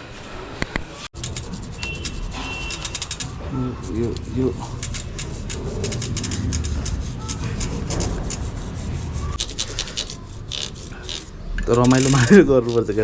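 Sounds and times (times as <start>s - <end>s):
scrubbing a bike by hand: 1.2s - 13.0s.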